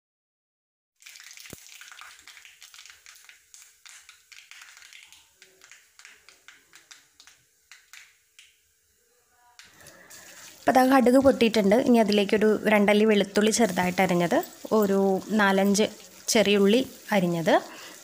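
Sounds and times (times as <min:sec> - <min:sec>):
seeds popping in oil: 0:01.0 - 0:08.8, 0:09.6 - 0:18.0
oil sizzling: 0:01.0 - 0:09.0, 0:09.6 - 0:18.0.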